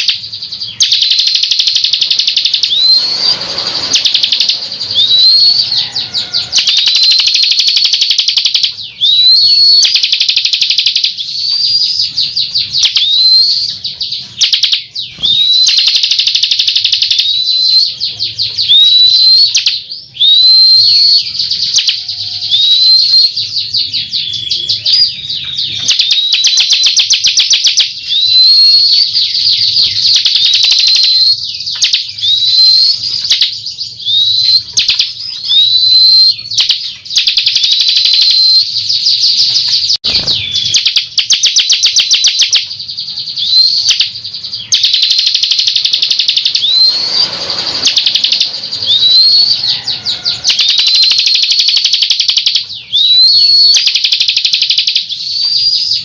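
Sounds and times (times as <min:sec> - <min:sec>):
bird song with fast trills: 0:00.0 - 0:56.0.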